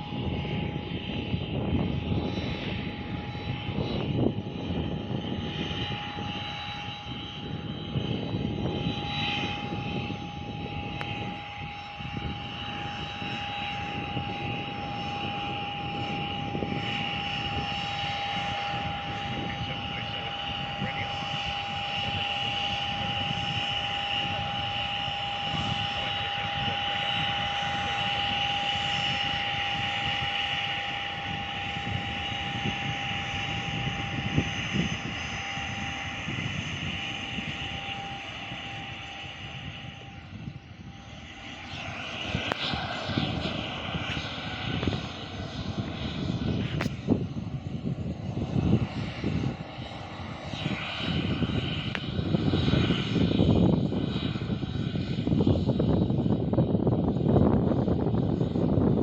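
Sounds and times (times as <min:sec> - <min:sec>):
airliner engines running: 0:00.0 - 0:59.0
choppy gusty rumble: 0:00.0 - 0:59.0.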